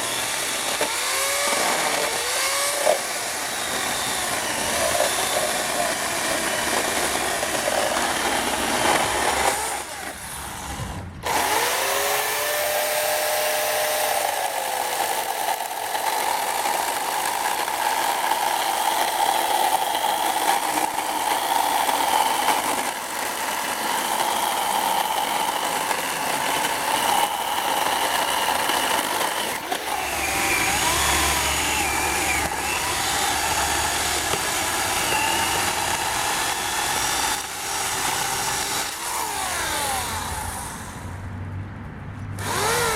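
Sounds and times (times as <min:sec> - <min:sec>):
electric chainsaw cutting wood: 0:00.0 - 0:41.2, 0:42.4 - 0:42.9.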